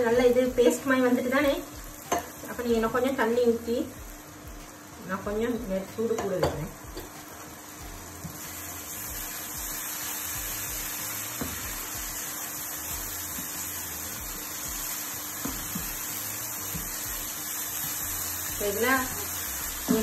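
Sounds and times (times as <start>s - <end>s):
curry hissing in a pan: 0.0s - 20.0s.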